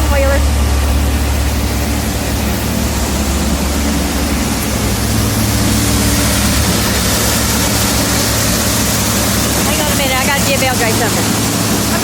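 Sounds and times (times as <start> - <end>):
machinery humming: 0.0 - 12.0
grain pouring rushing: 0.4 - 12.0.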